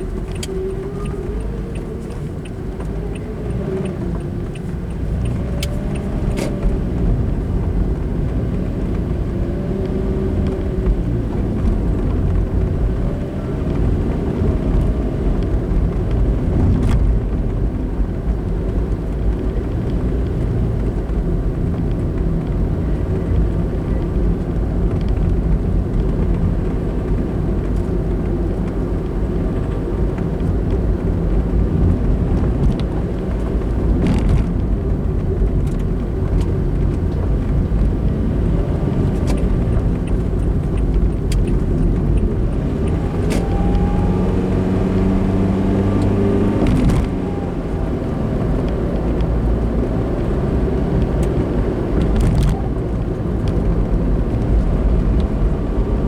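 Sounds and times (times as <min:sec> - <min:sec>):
pitched engine hum: 0:00.0 - 0:56.0
road and engine drone: 0:00.0 - 0:56.0.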